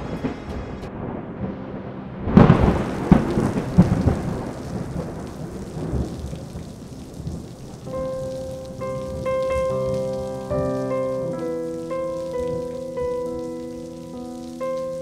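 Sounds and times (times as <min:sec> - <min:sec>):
steady rain: 0:00.0 - 0:15.0
thunder cracking and rumbling: 0:00.0 - 0:15.0.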